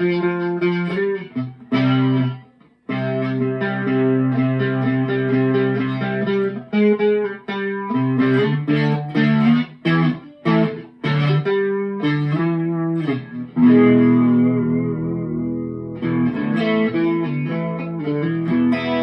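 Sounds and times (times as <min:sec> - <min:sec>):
electric guitar with chorus: 0:00.0 - 0:19.0.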